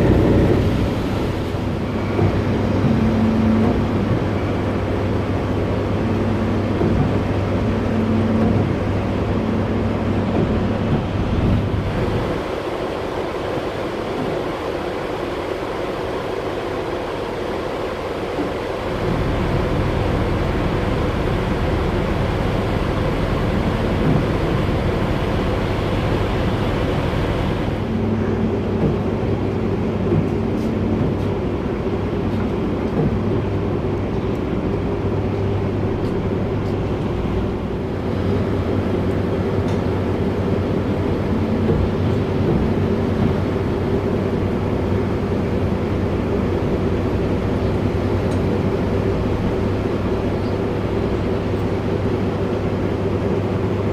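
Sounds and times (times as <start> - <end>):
ferry engines droning: 0.0 - 53.9
rushing wind and water: 0.0 - 53.9.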